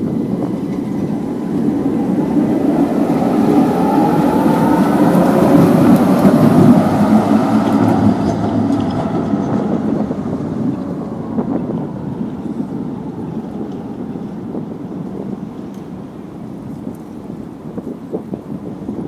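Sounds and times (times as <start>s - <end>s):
tram rolling past: 0.0s - 18.9s.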